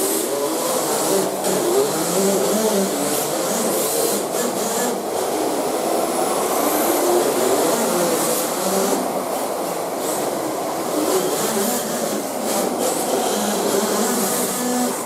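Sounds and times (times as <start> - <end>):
small engine buzzing: 0.0 - 5.8, 6.5 - 15.0.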